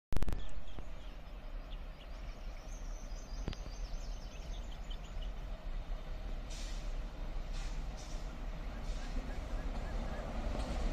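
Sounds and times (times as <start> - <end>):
steady low rumble: 0.2 - 10.9.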